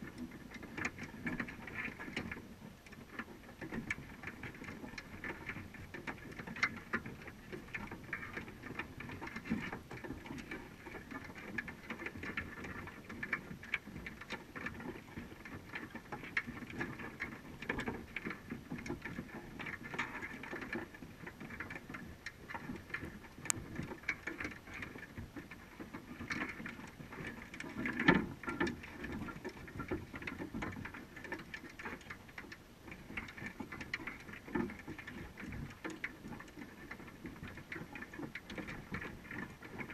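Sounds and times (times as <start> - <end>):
crabs clicking on wire mesh: 0.0 - 39.9.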